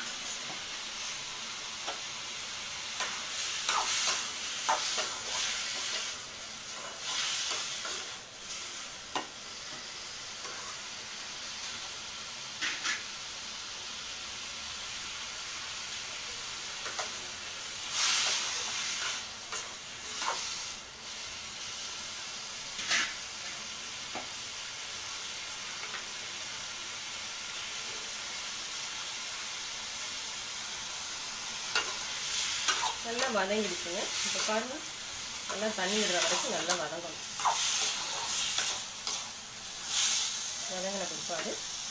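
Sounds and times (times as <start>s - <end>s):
vegetables sizzling in oil: 0.0s - 41.9s.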